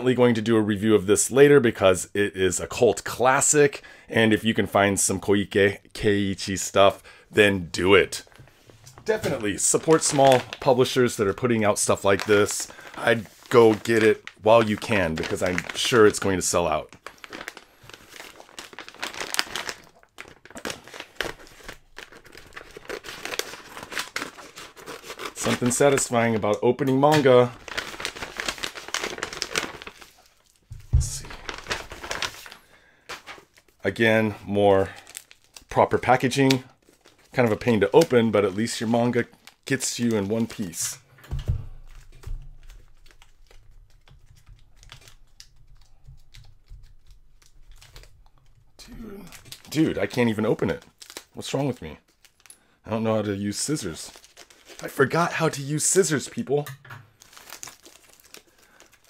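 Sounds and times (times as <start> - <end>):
paper mailer crinkling: 9.0 - 52.5, 53.2 - 59.0.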